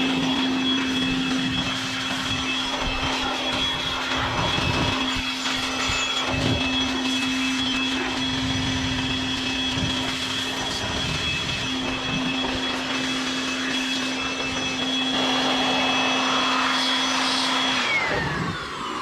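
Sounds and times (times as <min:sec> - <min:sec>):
electric air blower whining: 0:00.0 - 0:19.0.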